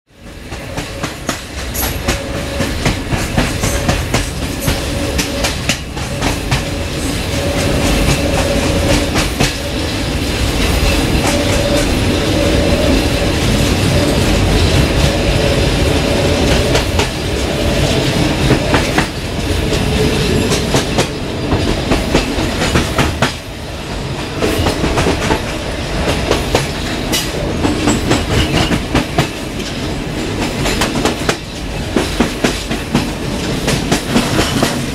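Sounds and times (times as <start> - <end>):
clickety-clack of rail joints: 0.1 - 34.9
train coach rumbling over track: 0.1 - 34.9.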